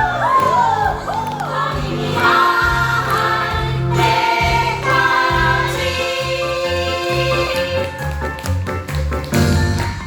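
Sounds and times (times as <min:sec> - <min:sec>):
stage musical music: 0:00.0 - 0:10.0.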